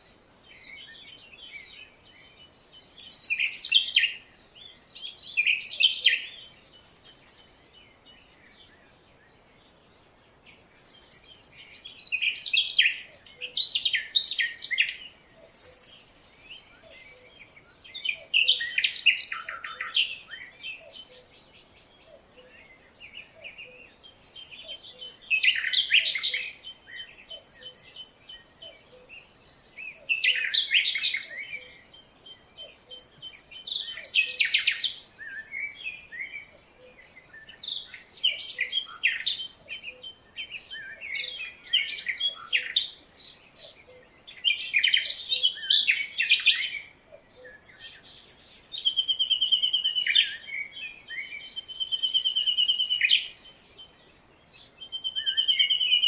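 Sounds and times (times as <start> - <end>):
birds singing rapid chirps: 0.0 - 56.0.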